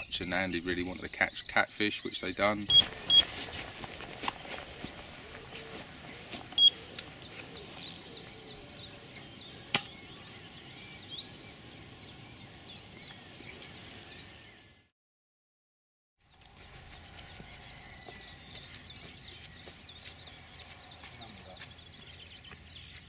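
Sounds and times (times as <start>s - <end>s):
small birds chirping: 0.0s - 14.9s, 16.3s - 23.0s.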